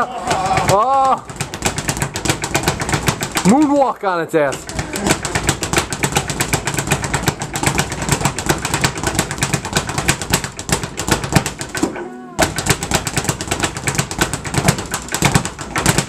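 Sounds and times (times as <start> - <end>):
speed bag rattling: 0.0 - 11.8, 12.4 - 16.0.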